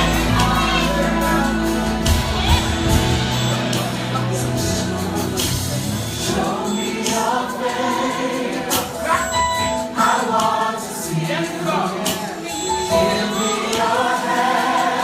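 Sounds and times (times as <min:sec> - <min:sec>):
band accompaniment: 0:00.0 - 0:15.0
drums beating: 0:00.0 - 0:15.0
gospel choir singing: 0:00.0 - 0:15.0.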